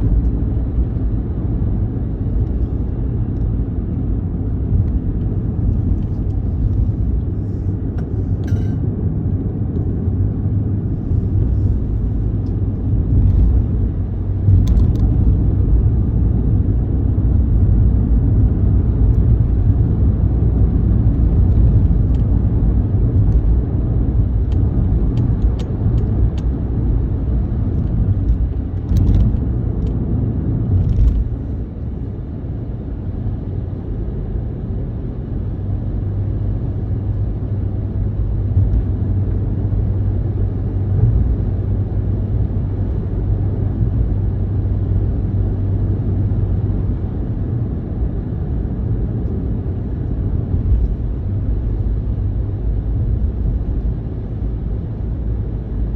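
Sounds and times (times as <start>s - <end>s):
vehicle rumbling: 0.0s - 55.9s.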